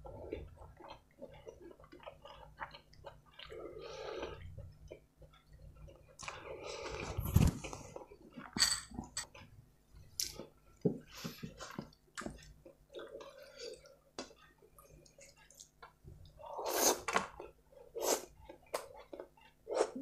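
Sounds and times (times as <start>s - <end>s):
wet chewing and mouth smacks: 0.0s - 8.6s, 11.5s - 20.0s.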